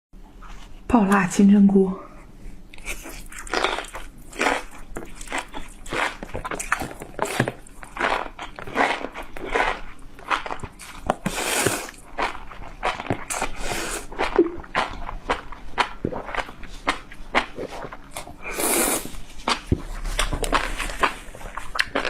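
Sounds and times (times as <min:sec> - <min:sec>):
close chewing and biting: 0:02.7 - 0:22.0.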